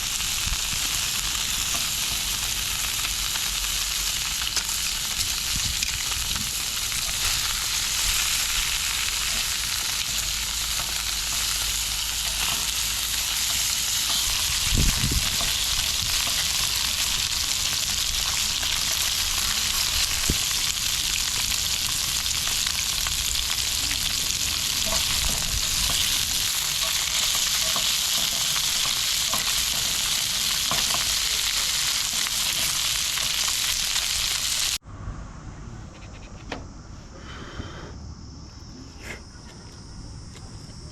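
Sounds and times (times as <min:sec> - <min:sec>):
food sizzling in a pan: 0:00.0 - 0:34.8.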